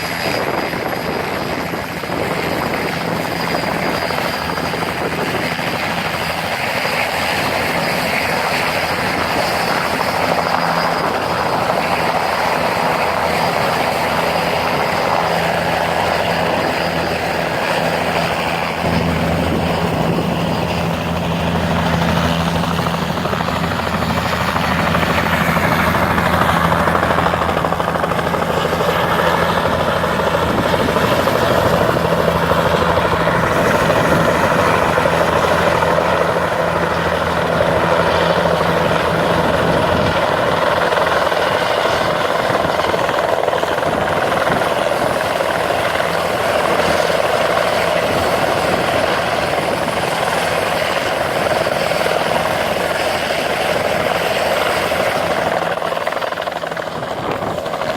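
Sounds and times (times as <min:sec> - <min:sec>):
helicopters running: 0:00.0 - 0:57.9.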